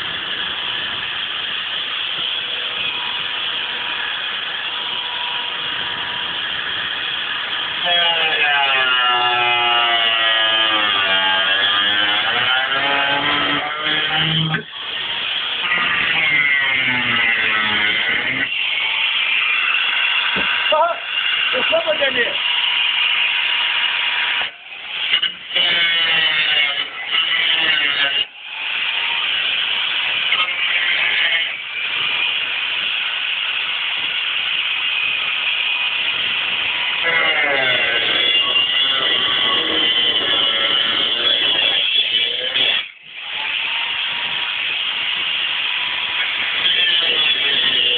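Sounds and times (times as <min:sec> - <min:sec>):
angle grinder cutting sheet steel: 0:00.0 - 0:47.9.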